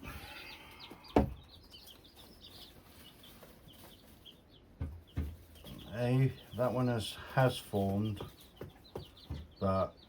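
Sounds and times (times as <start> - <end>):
chicks cheeping: 0.0 - 10.0.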